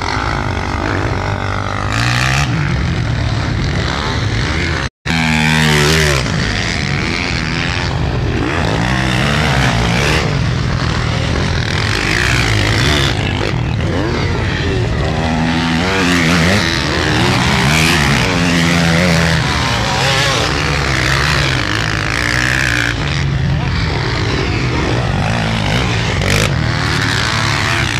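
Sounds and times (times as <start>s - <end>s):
motorcycle engines revving: 0.0s - 27.9s
motorcycle passing close: 0.0s - 27.9s.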